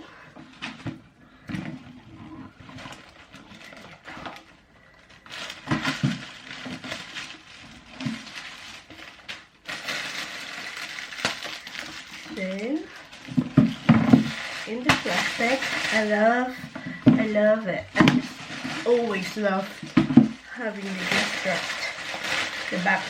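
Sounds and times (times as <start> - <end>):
box wrapping rustling: 0.3 - 23.0.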